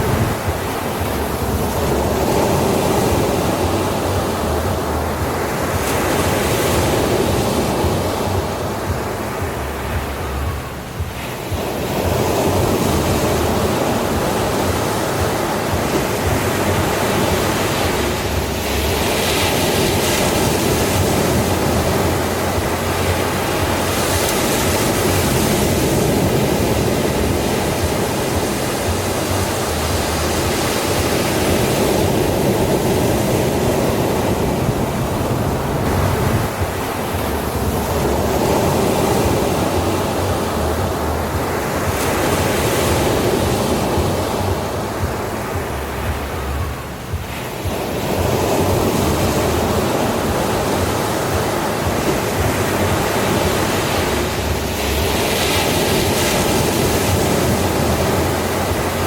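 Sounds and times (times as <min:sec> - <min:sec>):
surf breaking on shore: 0:00.0 - 0:59.0.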